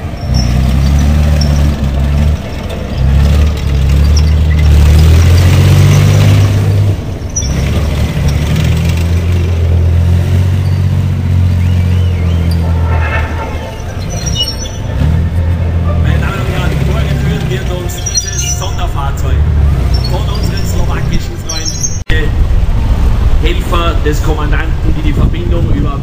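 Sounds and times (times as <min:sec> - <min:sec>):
tracked vehicle diesel engine: 0:00.0 - 0:26.0.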